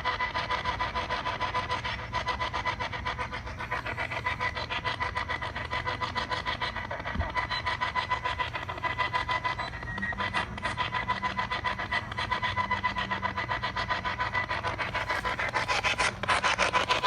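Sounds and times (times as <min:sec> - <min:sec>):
pulsing static: 0:03.3 - 0:17.0.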